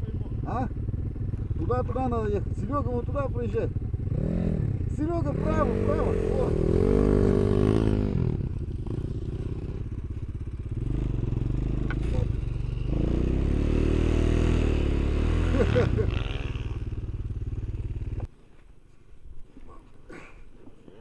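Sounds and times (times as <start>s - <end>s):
off-road vehicle engine revving: 0.0s - 18.3s.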